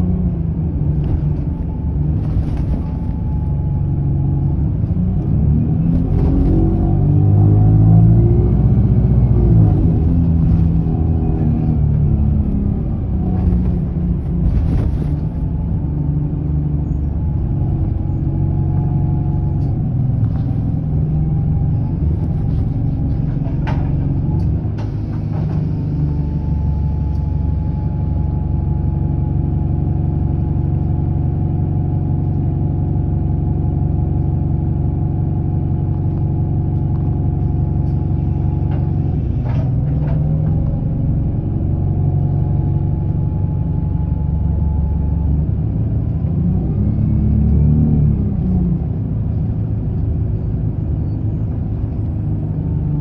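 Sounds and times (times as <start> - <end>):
bus engine low drone: 0.0 - 53.0.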